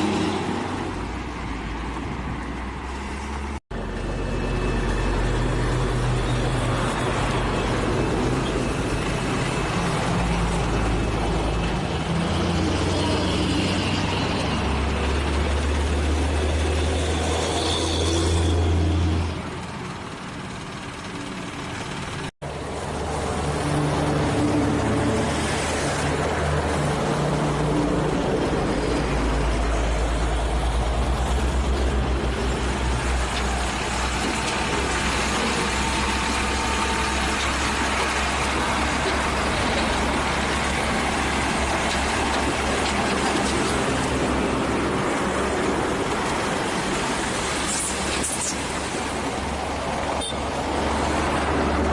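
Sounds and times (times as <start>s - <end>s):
diesel truck engines running: 0.0s - 51.9s.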